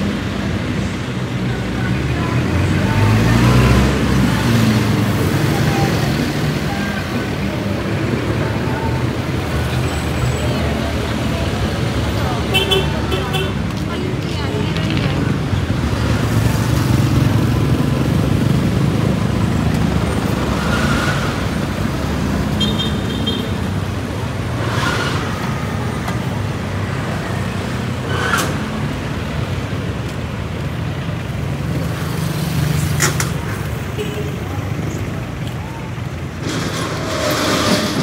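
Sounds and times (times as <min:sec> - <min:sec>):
vehicle engines humming: 0:00.0 - 0:38.0.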